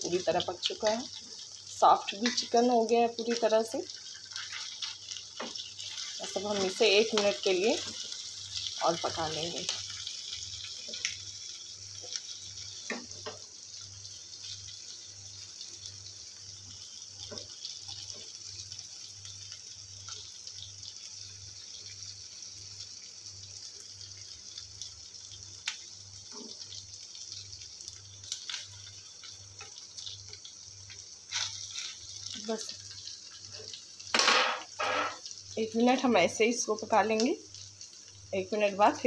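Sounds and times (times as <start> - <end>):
chicken sizzling on griddle: 0.0 - 39.0.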